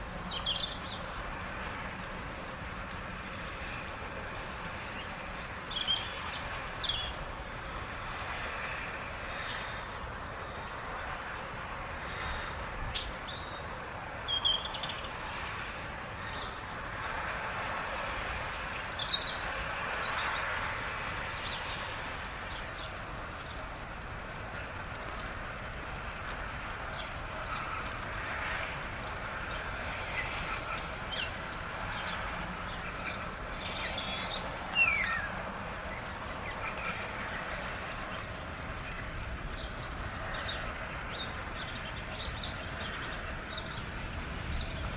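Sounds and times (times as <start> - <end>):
outdoor background noise: 0.0 - 44.9
small birds chirping: 0.0 - 44.9.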